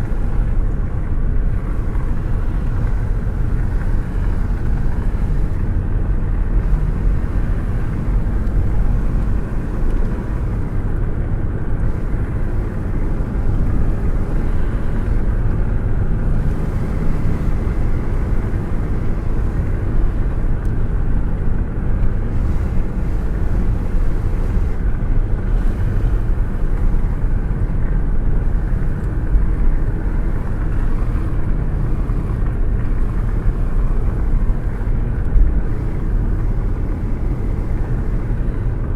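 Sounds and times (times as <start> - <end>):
air buffeting a hand: 0.0 - 38.9
wind and road noise in car: 0.0 - 38.9.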